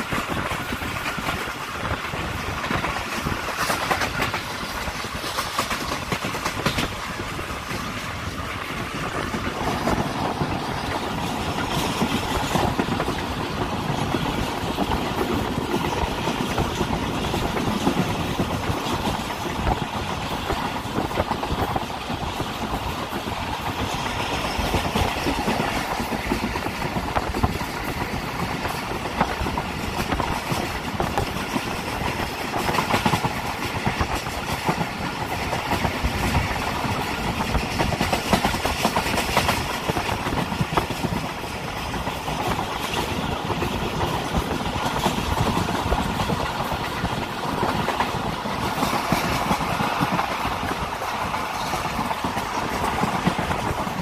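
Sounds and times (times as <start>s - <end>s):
train wheels rumbling on rails: 0.0s - 54.0s
wheels clicking over rail joints: 0.0s - 54.0s.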